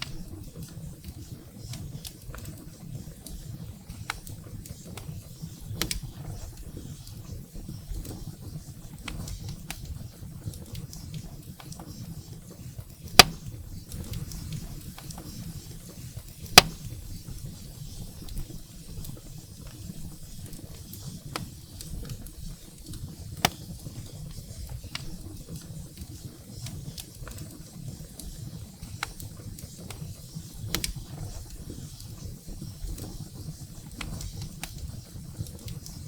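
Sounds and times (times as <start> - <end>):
firewood crackling and popping: 0.0 - 36.0
rumble of fire flames: 0.0 - 36.0.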